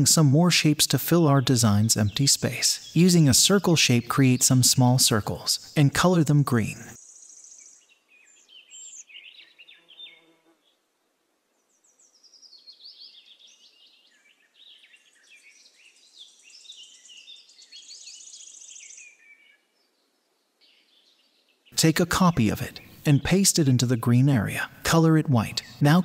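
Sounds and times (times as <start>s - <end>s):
birds chirping and trilling: 0.0s - 10.8s, 11.6s - 26.0s.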